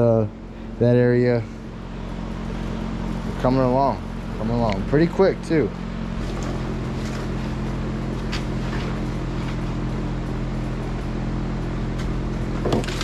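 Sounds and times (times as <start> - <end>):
drum fan humming: 0.0 - 13.0.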